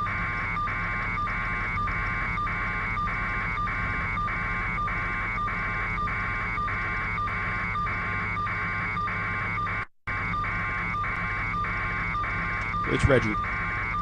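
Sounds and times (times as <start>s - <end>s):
pulsing electronic buzz: 0.0s - 14.0s
steady low hum: 0.0s - 14.0s.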